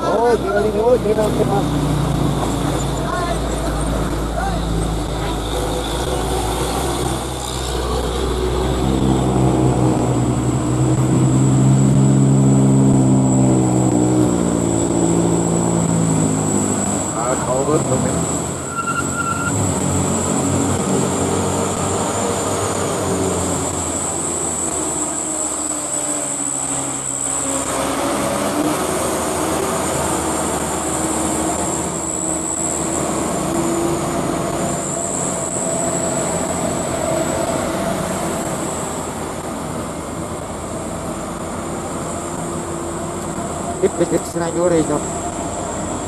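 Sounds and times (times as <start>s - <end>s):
diesel truck engines labouring: 0.0s - 46.0s.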